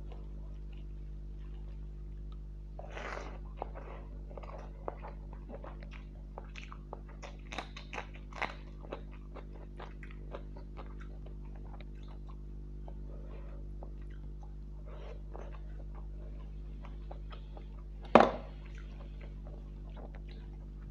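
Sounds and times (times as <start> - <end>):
chewing and biting food: 0.0 - 20.9
low electrical hum: 0.0 - 20.9.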